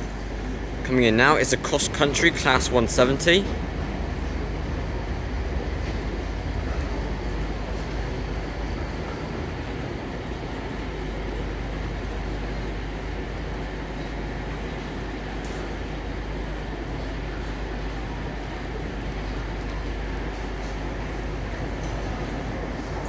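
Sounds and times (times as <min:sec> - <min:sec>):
diesel train engine rumbling: 0:00.0 - 0:23.0.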